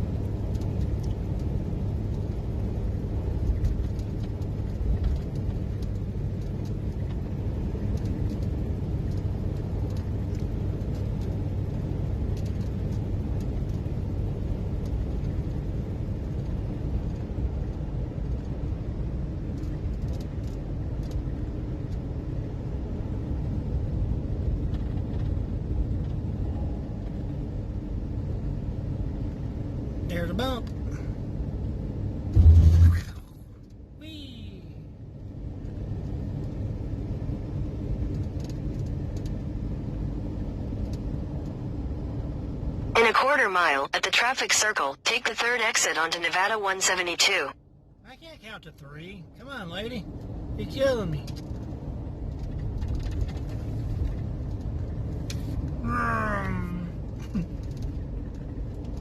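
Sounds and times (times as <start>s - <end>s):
van engine and tyre rumble: 0.0s - 44.8s, 47.2s - 59.0s.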